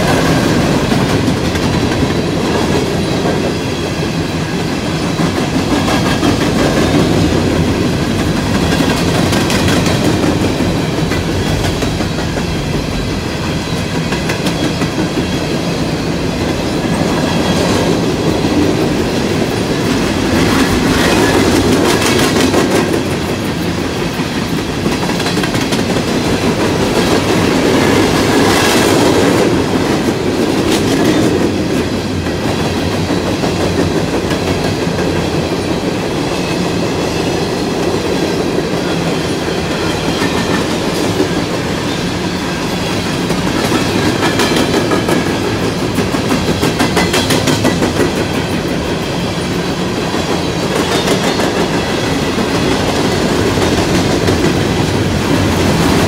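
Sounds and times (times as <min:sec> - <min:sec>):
freight train rumbling past: 0:00.0 - 0:56.0
wheels clacking over rail joints: 0:04.6 - 0:35.6, 0:36.4 - 0:56.0.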